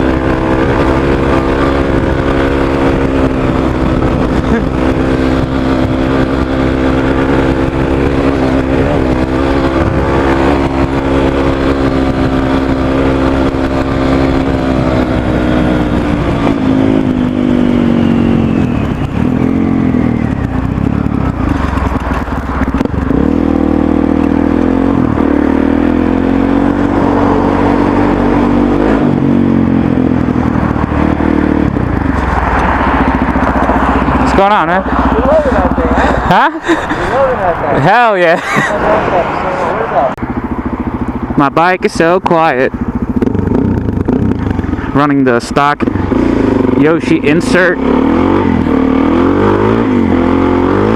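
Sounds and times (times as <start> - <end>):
motorcycle engine: 0.0 - 50.9.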